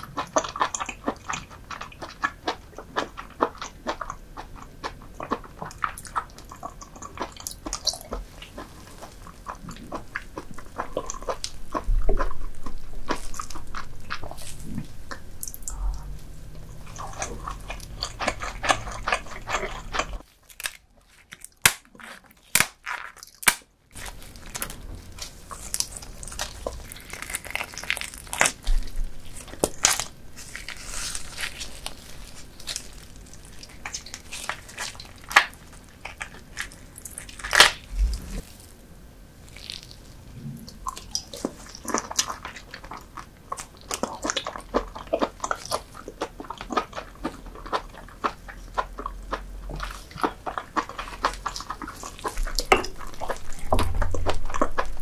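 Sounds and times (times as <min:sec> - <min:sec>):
person chewing wet food: 0:00.0 - 0:55.0.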